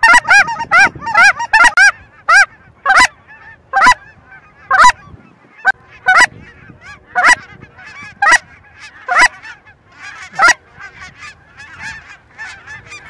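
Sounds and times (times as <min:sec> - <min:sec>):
flock of geese honking: 0:00.0 - 0:13.0
goose honking: 0:00.0 - 0:13.0.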